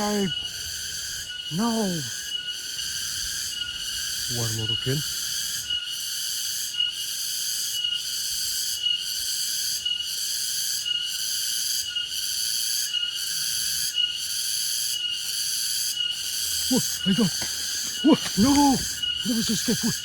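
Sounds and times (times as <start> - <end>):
cicada buzzing: 0.0 - 20.0.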